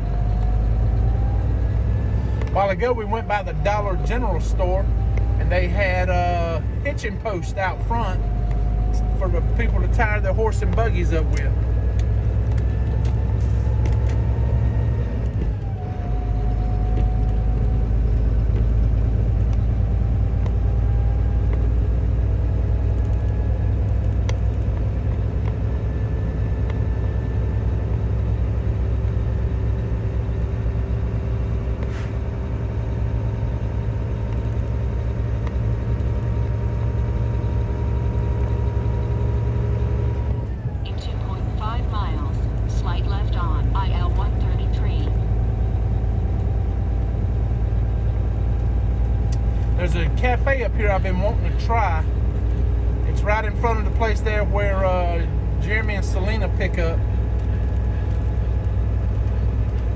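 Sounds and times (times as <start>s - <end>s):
diesel truck engine droning: 0.0s - 59.9s.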